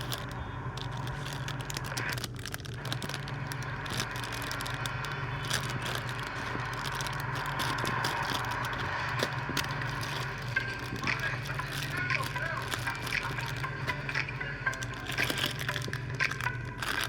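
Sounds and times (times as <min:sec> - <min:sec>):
crackling scraping clicks of handling: 0:00.0 - 0:17.0
steady low hum: 0:00.0 - 0:17.0.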